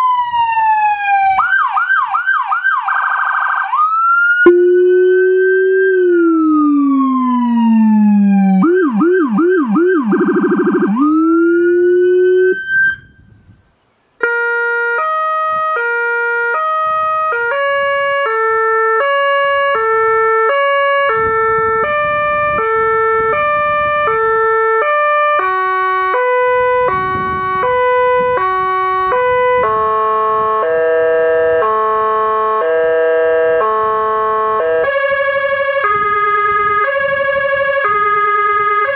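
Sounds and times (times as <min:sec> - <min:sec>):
electronic siren tones: 0:00.0 - 0:13.4, 0:14.2 - 0:38.9
deep siren undertone: 0:00.0 - 0:13.5, 0:14.2 - 0:38.9.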